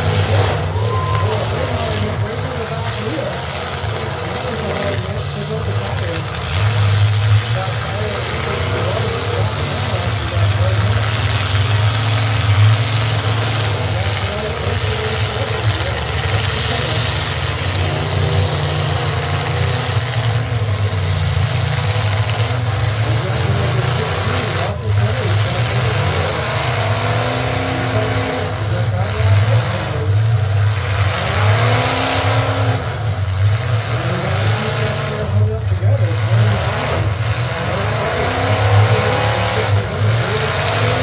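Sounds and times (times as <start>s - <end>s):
truck engines revving: 0.0s - 41.0s.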